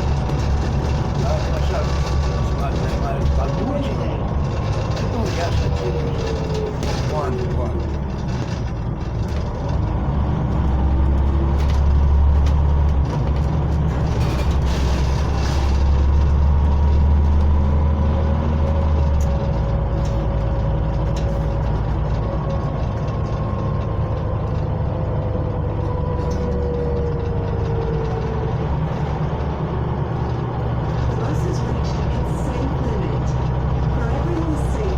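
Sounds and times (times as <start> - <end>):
bus diesel engine running: 0.0 - 34.9
faint engine whine: 0.0 - 34.9.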